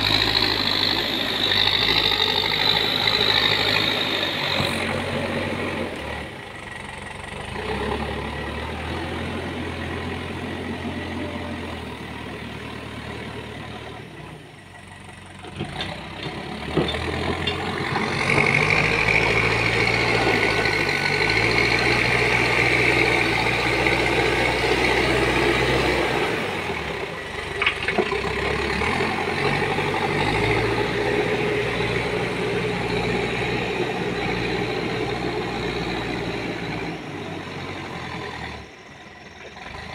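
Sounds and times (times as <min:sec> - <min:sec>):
backhoe diesel engine: 0:00.0 - 0:39.9.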